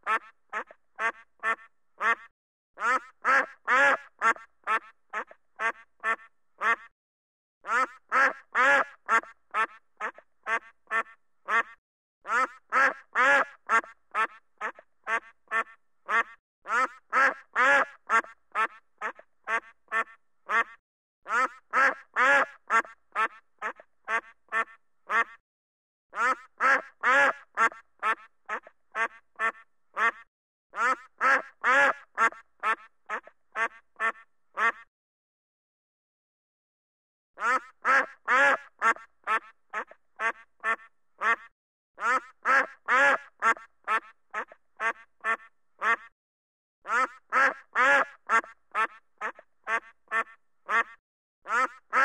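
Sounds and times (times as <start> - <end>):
duck quacking: 0.0 - 6.9, 7.6 - 25.4, 26.1 - 34.9, 37.4 - 46.1, 46.9 - 52.0.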